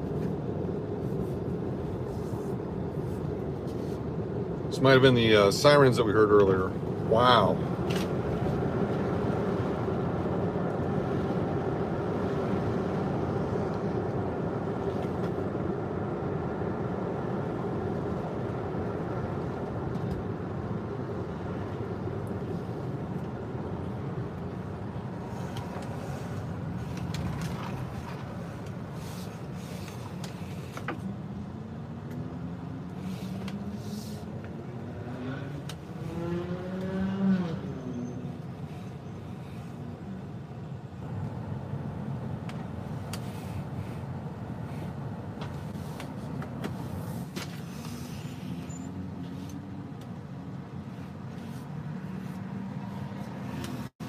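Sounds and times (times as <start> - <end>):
car engine and tyre noise: 0.0 - 54.0.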